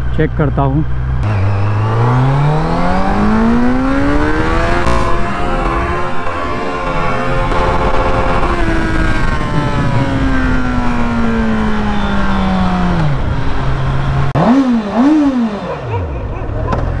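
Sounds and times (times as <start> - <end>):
motorcycle engine decelerating: 0.0 - 17.0
motorcycle engine revving: 0.8 - 17.0.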